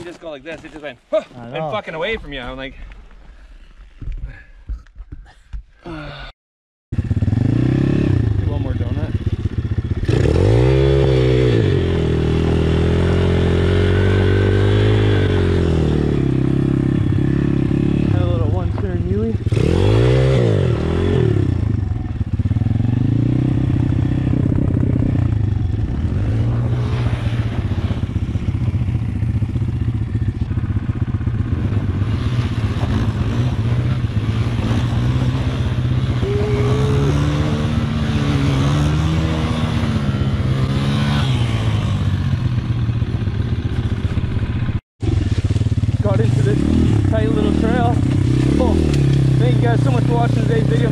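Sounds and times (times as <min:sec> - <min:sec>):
motorbike engine revving: 0:07.0 - 0:50.9.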